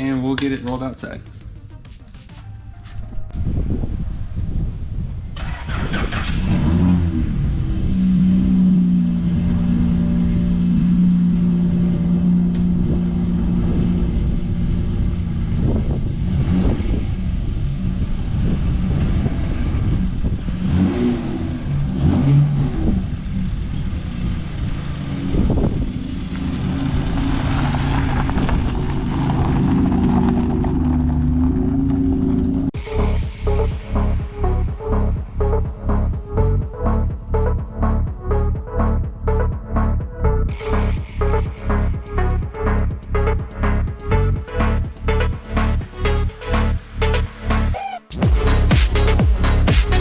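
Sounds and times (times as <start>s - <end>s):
car engine running: 5.3s - 50.0s.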